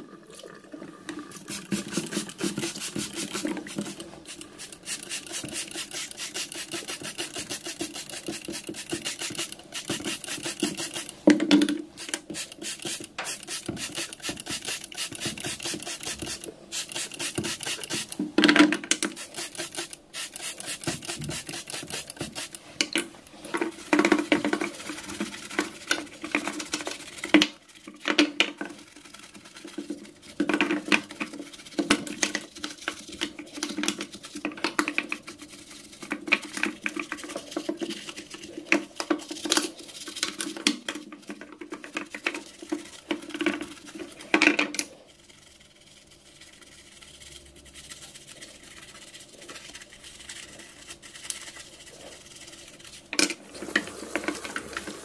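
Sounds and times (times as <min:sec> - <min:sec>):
scrubbing strokes: 0:01.2 - 0:11.2, 0:11.9 - 0:18.3, 0:19.1 - 0:28.0, 0:28.6 - 0:55.0.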